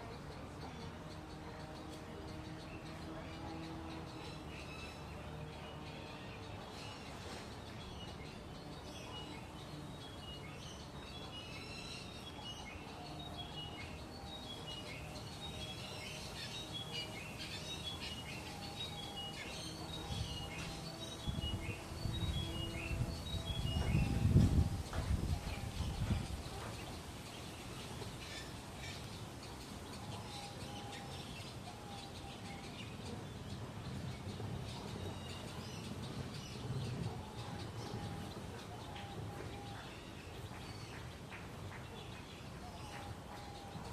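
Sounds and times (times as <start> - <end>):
background noise: 0.0 - 43.9
small birds chirping: 0.0 - 43.9.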